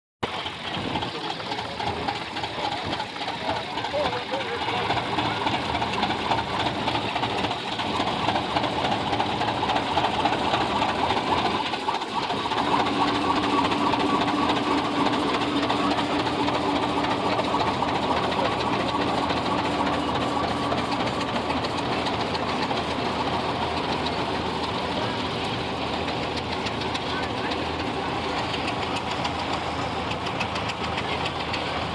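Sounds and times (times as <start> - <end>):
tractor engine clattering: 0.2 - 31.9.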